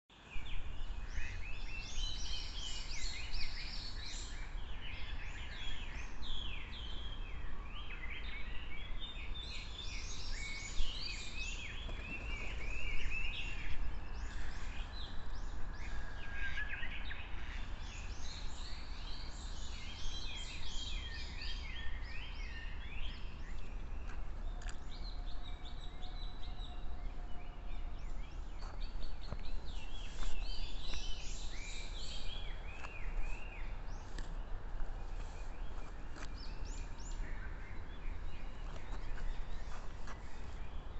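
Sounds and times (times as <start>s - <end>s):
songbirds chirping and trilling: 0.1s - 40.9s.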